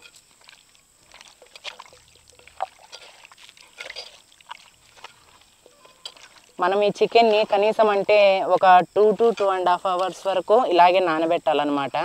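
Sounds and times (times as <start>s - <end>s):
wet squelching of kneaded meat: 0.0s - 10.4s.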